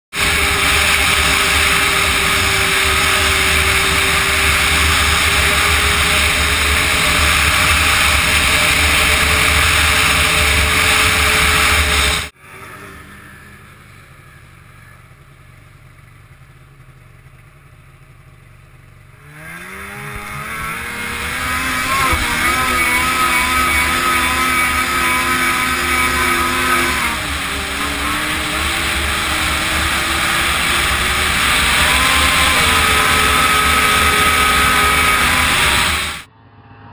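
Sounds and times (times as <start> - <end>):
snowmobile engine running: 0.0 - 36.3.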